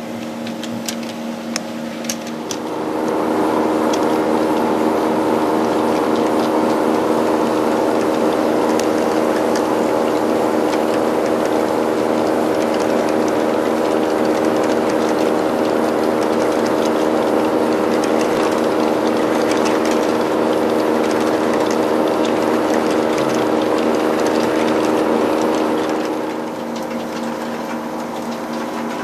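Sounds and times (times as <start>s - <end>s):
model train humming: 0.0s - 29.0s
wheels clicking on track: 0.0s - 29.0s.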